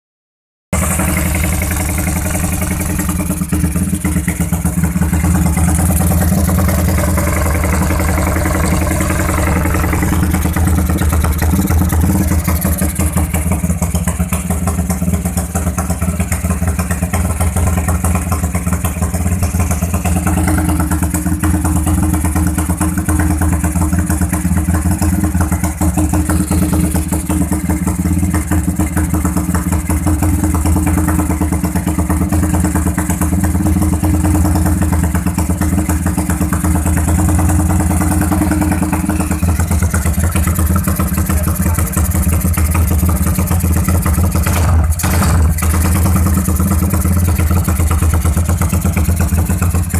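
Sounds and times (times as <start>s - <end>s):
motorcycle engine idling: 0.8s - 49.9s.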